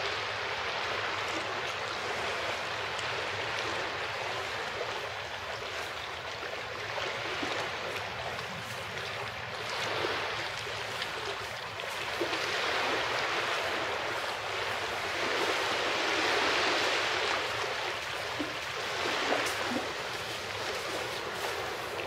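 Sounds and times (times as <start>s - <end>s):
small waves washing onto shore: 0.0s - 22.0s.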